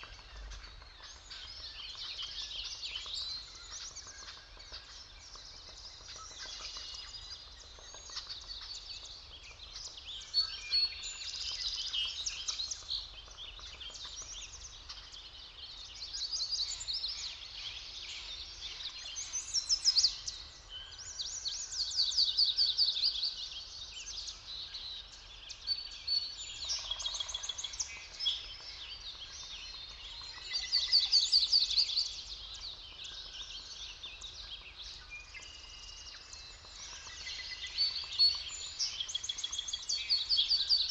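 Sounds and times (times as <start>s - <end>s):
soft forest background hiss: 0.0s - 40.9s
songbirds singing and chirping: 0.0s - 40.9s.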